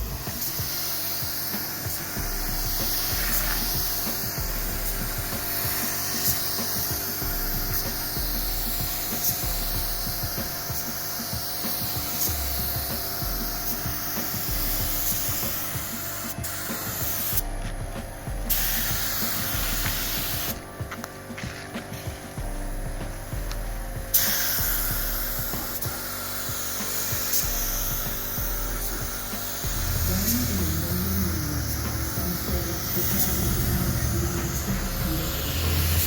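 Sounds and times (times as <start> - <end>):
hissing and rubbing work noise: 0.0 - 36.0
music: 0.0 - 36.0.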